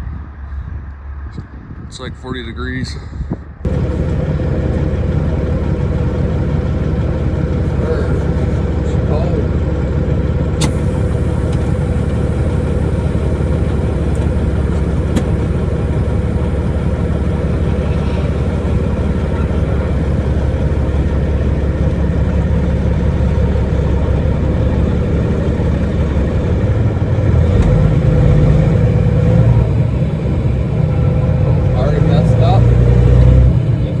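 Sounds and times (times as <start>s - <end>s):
truck diesel engine droning: 3.6s - 34.0s.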